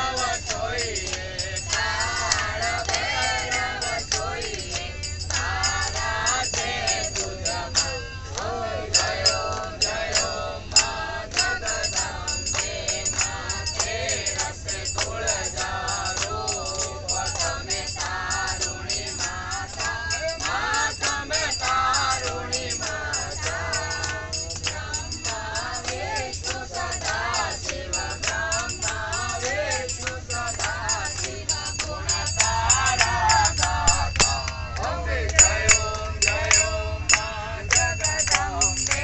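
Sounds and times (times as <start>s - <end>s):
group singing devotional song: 0.0s - 39.0s
hands clapping a steady beat: 0.0s - 39.0s.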